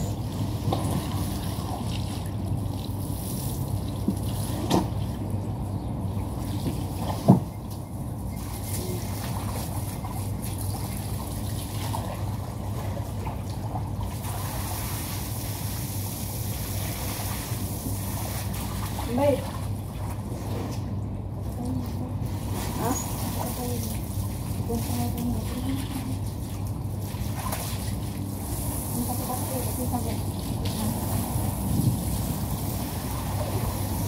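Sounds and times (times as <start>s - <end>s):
water from hose splashing on paving: 0.0s - 20.7s, 21.4s - 34.0s.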